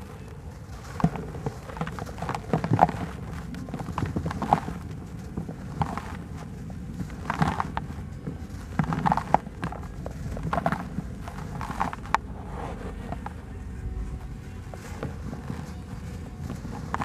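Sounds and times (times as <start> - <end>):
dirt crumbling by hand: 0.0 - 17.0
loose soil sifting: 0.0 - 17.0.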